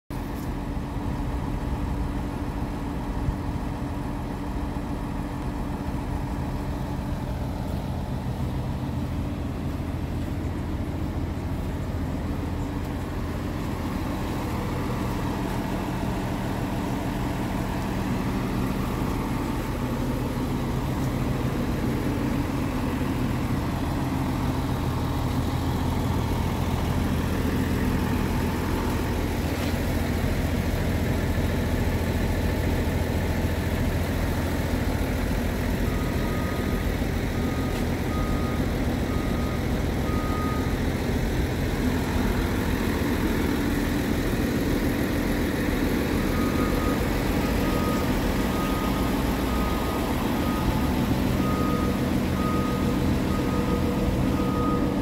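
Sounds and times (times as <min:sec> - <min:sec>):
diesel truck engine idling: 0:00.1 - 0:55.0.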